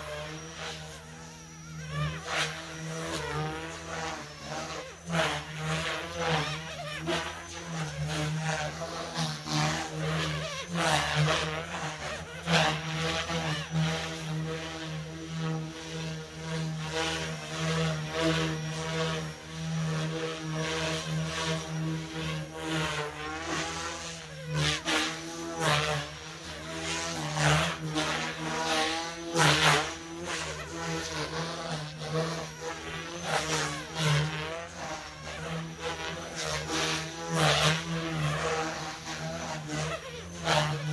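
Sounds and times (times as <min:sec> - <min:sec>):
helicopter rotors buzzing: 0:00.0 - 0:40.9
motor whine: 0:00.0 - 0:40.9.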